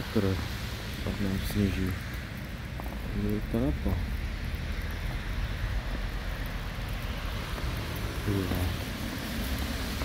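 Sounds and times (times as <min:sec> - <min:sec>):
car traffic on snowy road: 0:00.0 - 0:10.0
wind buffeting microphone: 0:00.0 - 0:10.0.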